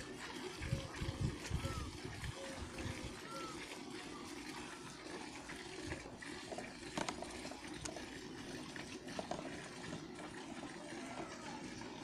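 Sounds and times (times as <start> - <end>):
milk squirting into metal pail: 0.0 - 12.0.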